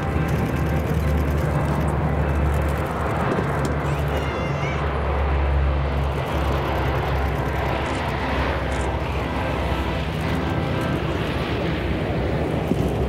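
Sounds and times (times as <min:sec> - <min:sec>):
low propeller drone: 0:00.0 - 0:13.0
turboprop engines running: 0:00.0 - 0:13.0.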